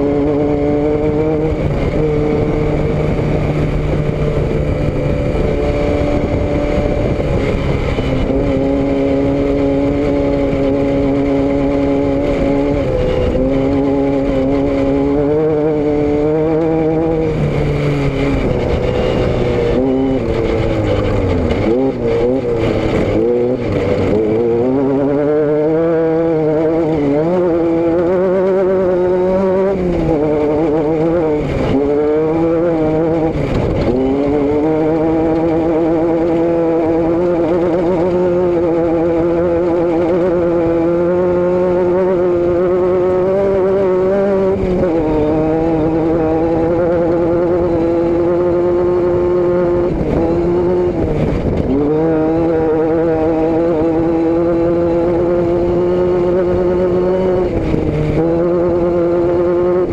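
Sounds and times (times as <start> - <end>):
vehicle engine and exhaust: 0.0 - 59.9.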